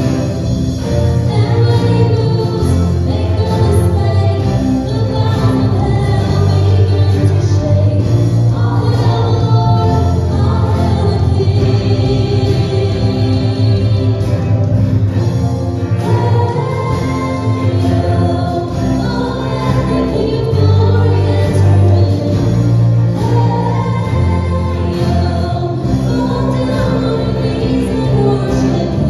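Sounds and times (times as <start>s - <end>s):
instrumental accompaniment: 0.0s - 29.0s
group singing worship song: 1.2s - 29.0s.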